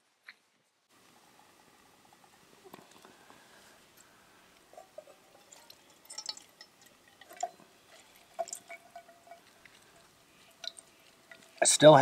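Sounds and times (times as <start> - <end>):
juice dripping into metal mug: 1.0 - 12.0.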